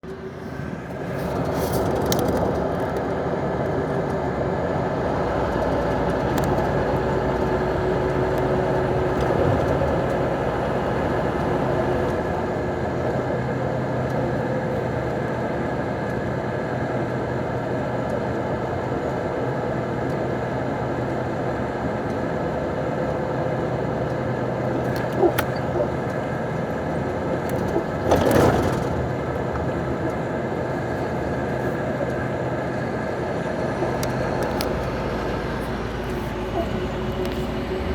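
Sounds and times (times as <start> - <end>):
road noise: 0.0 - 37.9
truck engine drone: 0.0 - 37.9.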